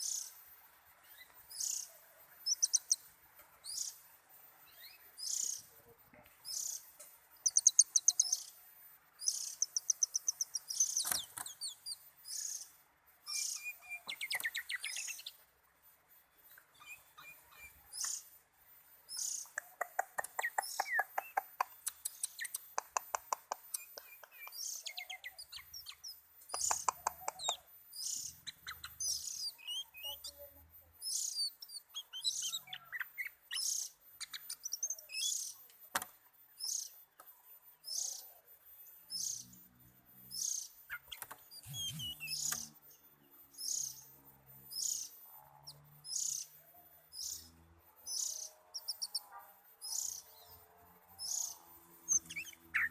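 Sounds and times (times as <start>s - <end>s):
bird high chirps: 1.0s - 5.8s, 6.4s - 15.5s, 16.3s - 35.8s, 36.5s - 52.9s.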